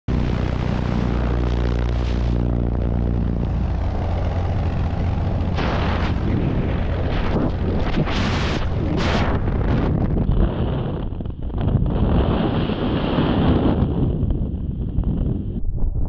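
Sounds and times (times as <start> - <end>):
airplane engine and propeller drone: 0.1 - 16.0
wind rushing past microphone: 0.4 - 16.0.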